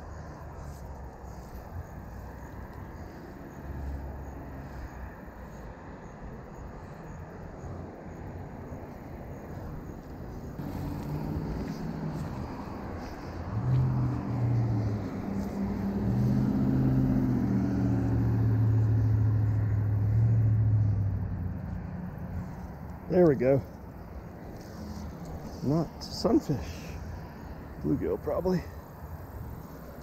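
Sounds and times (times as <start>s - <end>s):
passing vehicle engine hum: 0.0s - 30.0s.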